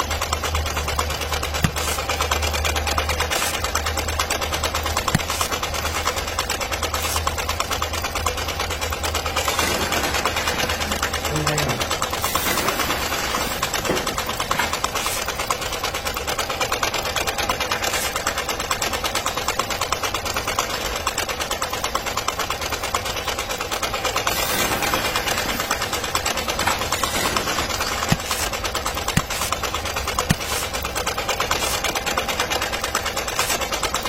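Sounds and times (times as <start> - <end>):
small motor running with clatter: 0.0 - 34.0.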